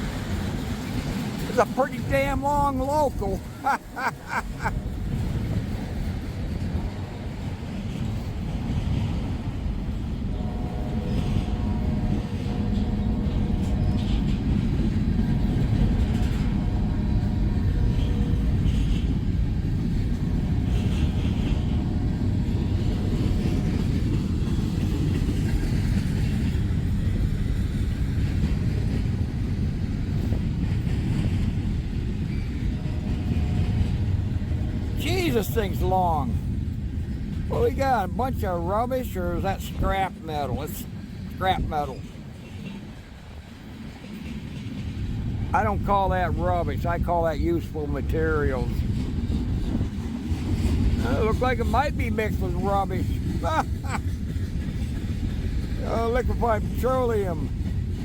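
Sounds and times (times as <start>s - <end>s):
wheels clicking over rail joints: 0.0s - 10.1s, 12.4s - 58.0s
freight train wheels rumbling: 0.0s - 58.0s.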